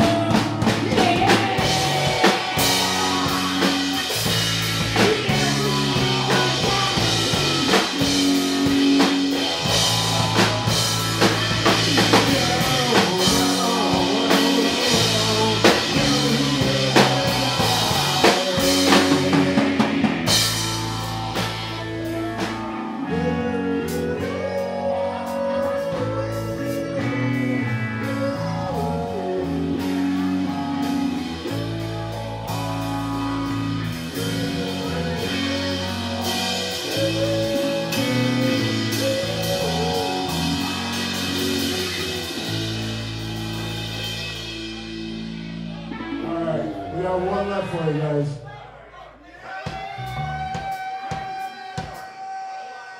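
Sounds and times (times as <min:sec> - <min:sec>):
drum kit: 0:00.0 - 0:47.0, 0:49.5 - 0:52.4
electric guitar: 0:00.0 - 0:48.0
person singing: 0:00.0 - 0:48.4
bass guitar: 0:00.0 - 0:52.0.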